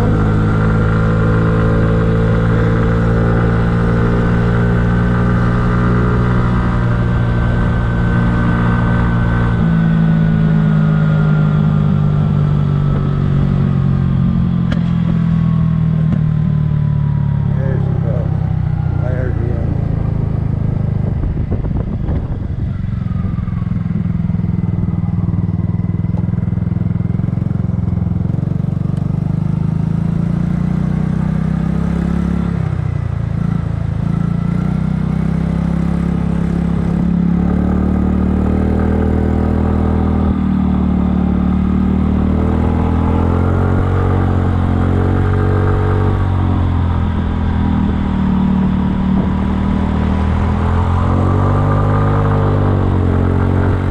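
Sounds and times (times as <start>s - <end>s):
scooter engine running: 0.0s - 30.4s, 32.9s - 53.9s.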